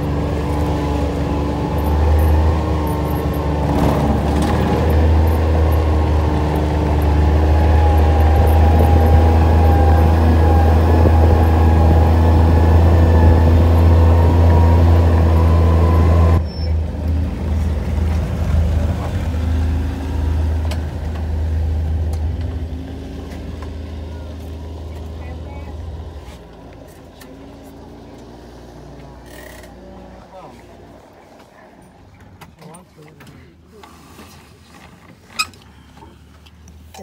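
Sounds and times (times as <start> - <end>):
utility vehicle engine droning: 0.0 - 33.1.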